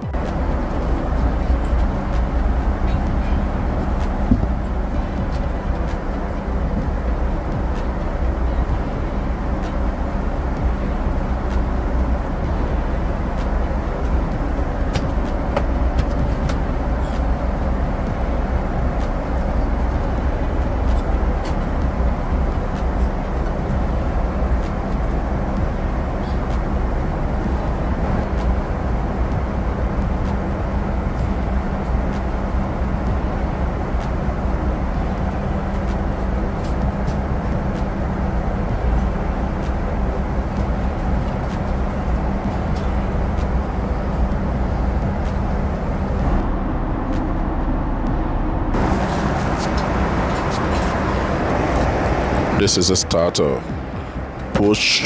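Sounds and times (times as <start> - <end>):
airplane cabin airflow and engines: 0.0 - 55.0
low hum: 0.0 - 55.0.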